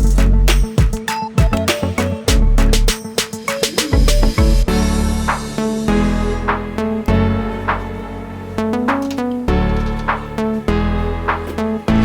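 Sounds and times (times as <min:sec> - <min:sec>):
music with heavy bass line: 0:00.0 - 0:03.0, 0:03.8 - 0:12.0
synth sweep: 0:01.8 - 0:12.0.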